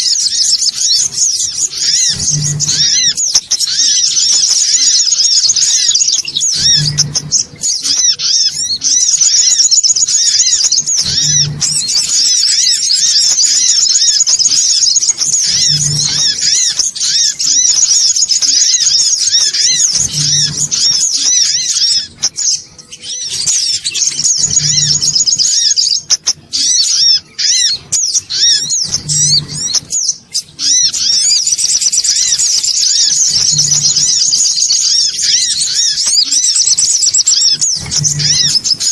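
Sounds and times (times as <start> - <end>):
bird chattering calls: 0.0 - 38.9.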